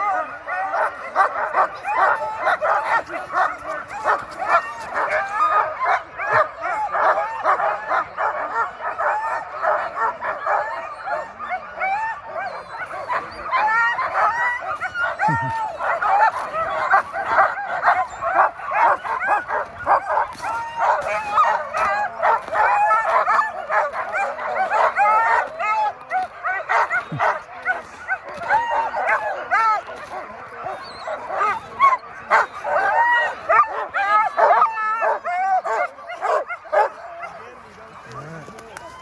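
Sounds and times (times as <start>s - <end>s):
dogs barking and yipping: 0.0s - 39.0s.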